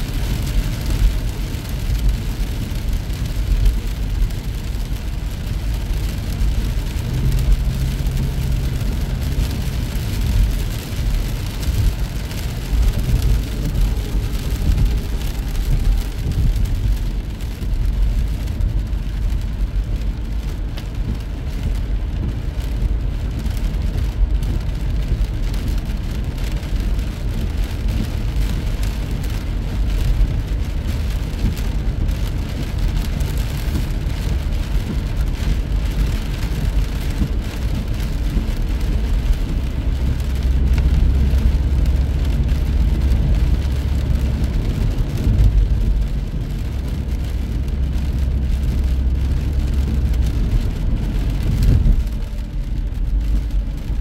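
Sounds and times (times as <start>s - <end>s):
rain falling on car: 0.0s - 54.0s
road and engine rumble: 0.0s - 54.0s.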